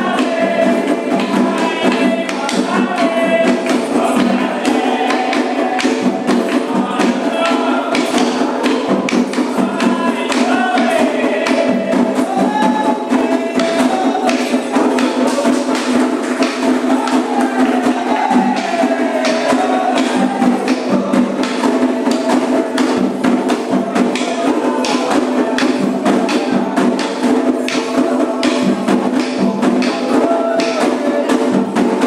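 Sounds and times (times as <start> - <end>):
fast drum rhythm: 0.0 - 32.0
singing: 0.0 - 32.0
struck bell percussion: 0.0 - 32.0.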